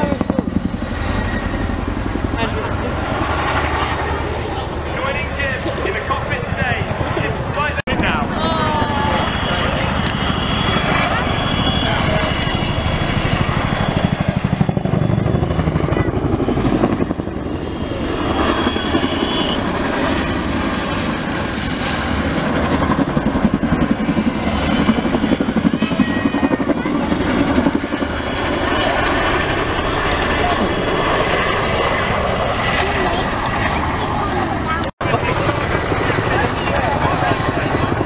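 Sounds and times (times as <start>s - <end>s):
helicopter rotors beating: 0.0s - 38.0s.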